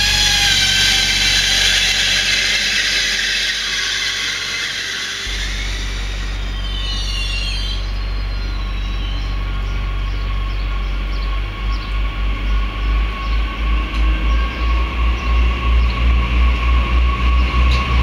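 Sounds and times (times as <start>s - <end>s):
rhythmic low pulsing of wheels: 0.0s - 18.0s
train running with high whine: 0.0s - 18.0s.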